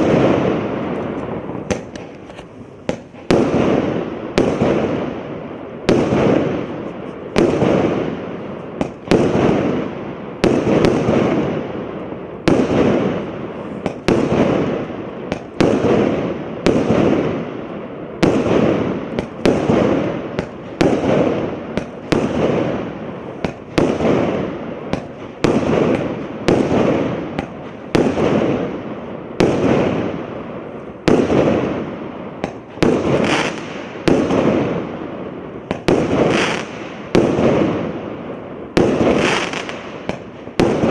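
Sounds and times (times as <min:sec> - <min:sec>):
firework shots banging and bursting: 0:00.0 - 0:40.9.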